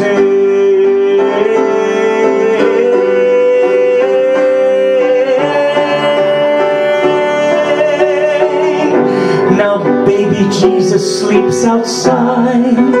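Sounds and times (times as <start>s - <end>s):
instrumental accompaniment: 0.0s - 13.0s
man singing long notes: 0.0s - 13.0s.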